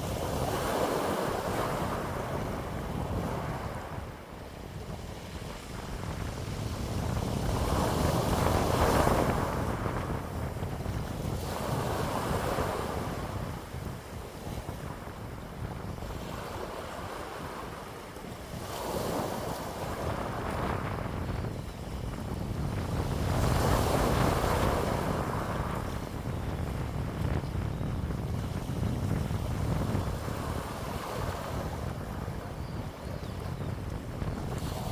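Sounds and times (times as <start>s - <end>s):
wind blowing in gusts: 0.0s - 34.9s
wind buffeting microphone: 0.0s - 34.9s.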